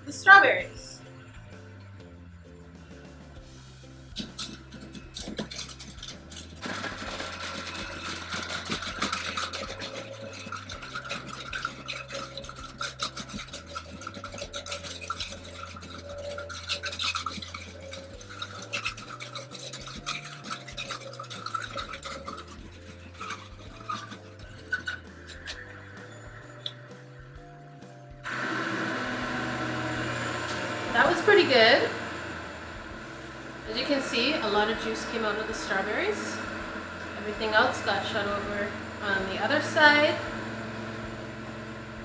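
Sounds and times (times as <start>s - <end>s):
juicer motor humming: 2.8s - 42.0s
fruit shredding rasping crackle: 4.0s - 27.4s, 28.2s - 42.0s.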